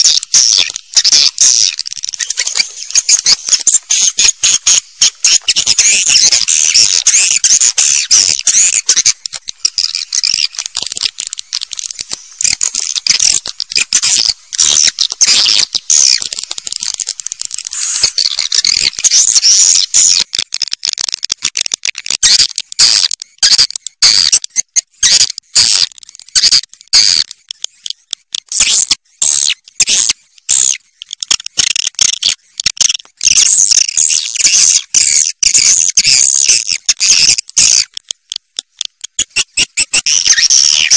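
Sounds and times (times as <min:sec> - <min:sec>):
swiftlets twittering chirps: 0:00.0 - 0:21.0, 0:21.9 - 0:38.4, 0:39.0 - 0:40.9.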